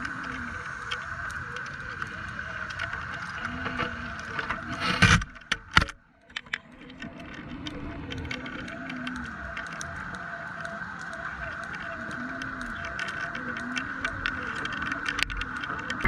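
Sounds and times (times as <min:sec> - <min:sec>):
sharp clicks underwater: 0:00.0 - 0:16.0
underwater boat hum: 0:00.0 - 0:16.0.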